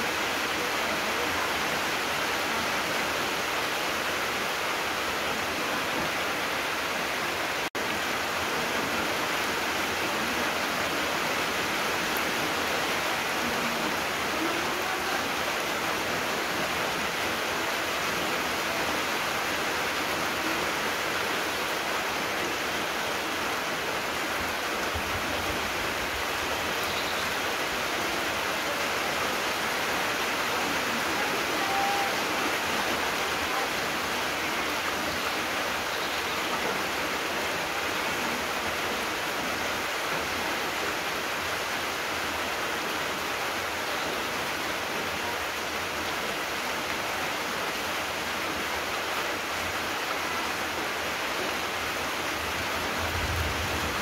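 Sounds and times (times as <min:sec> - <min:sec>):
rain on trees and leaves: 0:00.0 - 0:54.0.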